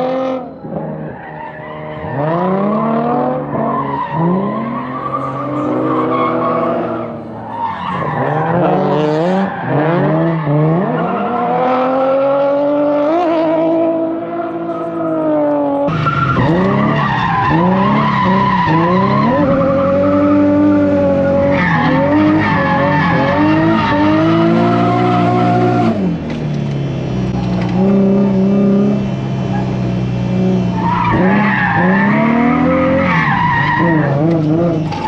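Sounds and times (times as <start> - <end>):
car engine revving: 0.0 - 35.0
tyres skidding: 0.0 - 35.0.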